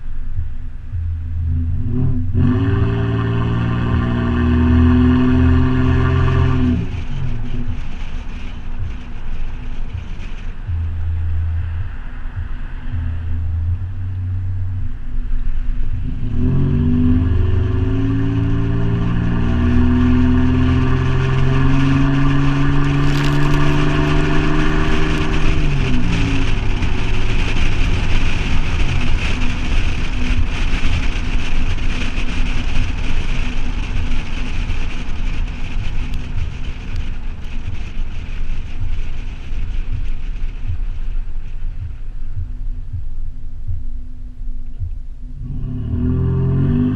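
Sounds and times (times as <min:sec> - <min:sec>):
car exhaust accelerating: 0:00.0 - 0:46.9
road and wind noise: 0:00.0 - 0:46.9.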